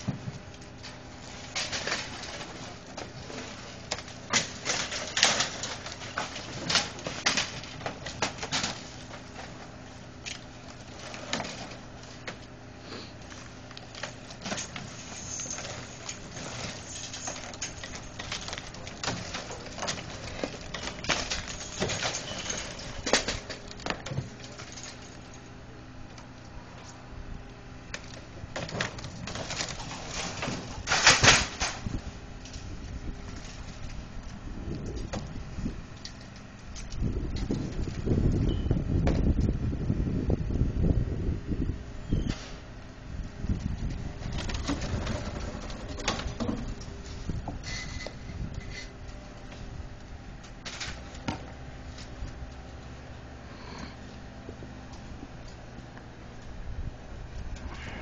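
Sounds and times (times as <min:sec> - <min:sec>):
debris cracking and crunching: 0:00.0 - 0:39.7, 0:42.7 - 0:53.0.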